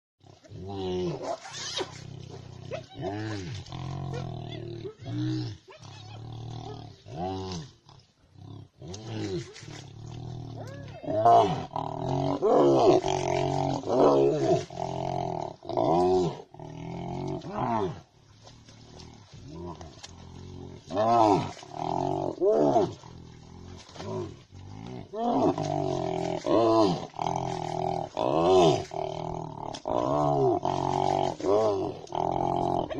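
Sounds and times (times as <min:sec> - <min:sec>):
low growling: 0:00.2 - 0:32.9.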